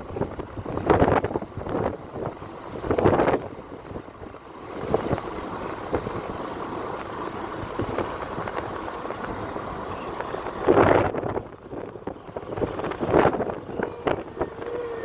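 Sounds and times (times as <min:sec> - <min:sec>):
road and wind noise in car: 0:00.0 - 0:15.0
wind buffeting microphone: 0:00.0 - 0:15.0.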